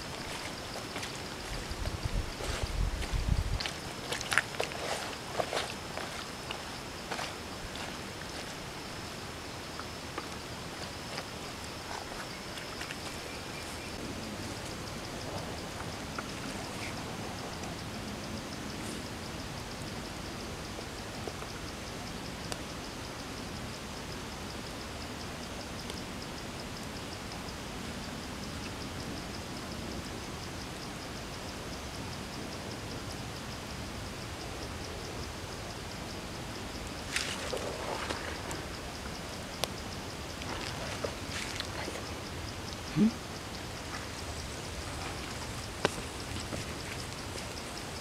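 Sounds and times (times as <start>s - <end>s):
faint high insect chirp: 0.0s - 48.0s
outdoor background noise: 0.0s - 48.0s.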